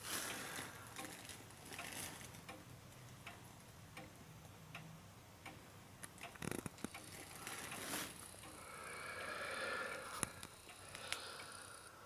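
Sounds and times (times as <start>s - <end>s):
wall clock ticking: 0.0s - 8.7s, 9.9s - 12.0s.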